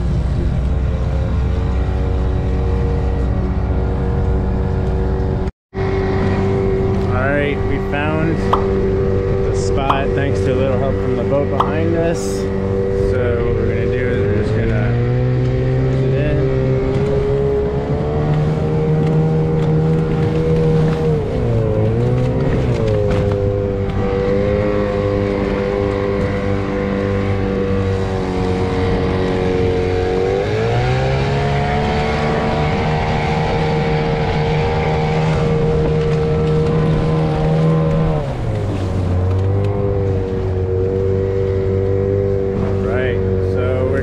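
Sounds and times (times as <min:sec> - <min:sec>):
outboard motor running: 0:00.0 - 0:44.0
water noise: 0:00.0 - 0:44.0
wind: 0:00.0 - 0:44.0.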